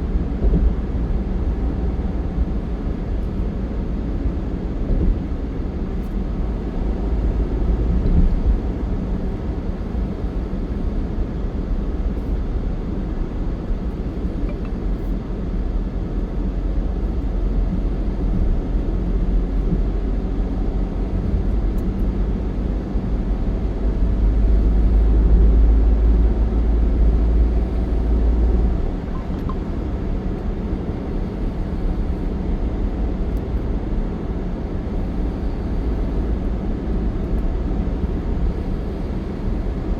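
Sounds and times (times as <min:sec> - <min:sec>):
vehicle and road rumble: 0:00.0 - 0:39.9.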